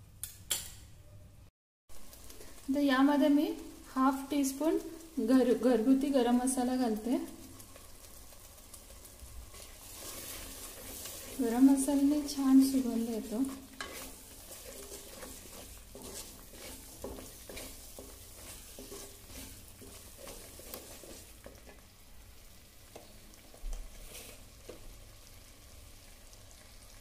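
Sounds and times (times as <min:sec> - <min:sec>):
paste sizzling in oil: 0:01.9 - 0:27.0
wooden spatula stirring and scraping: 0:02.0 - 0:03.0, 0:03.6 - 0:22.2, 0:22.8 - 0:25.0.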